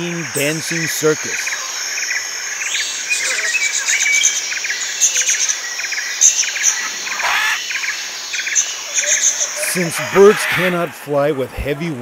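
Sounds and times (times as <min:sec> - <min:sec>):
high bird chirps: 0:00.0 - 0:11.0
insect rapid pulses: 0:00.0 - 0:11.0
sweeping bird call: 0:00.0 - 0:11.1.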